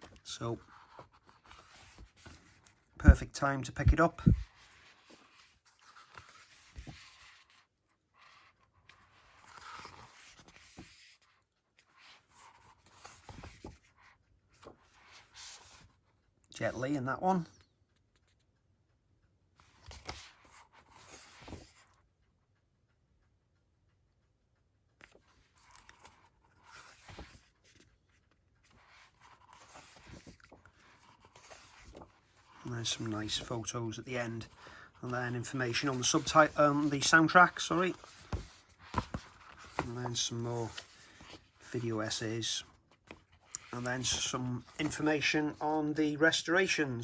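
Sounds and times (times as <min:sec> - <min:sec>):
paper pages rustling: 0:00.0 - 0:02.9, 0:03.8 - 0:16.0, 0:19.6 - 0:21.9, 0:25.0 - 0:46.4.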